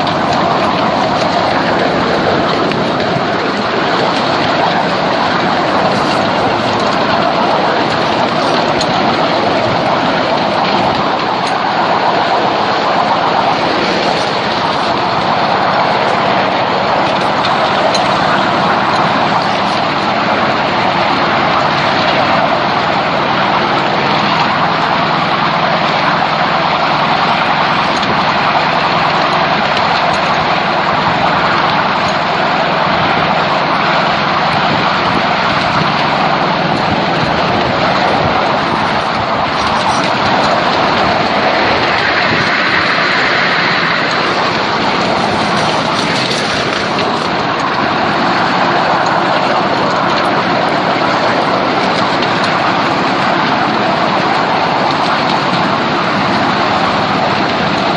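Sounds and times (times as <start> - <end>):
miniature train wheels rolling: 0.0 - 57.9.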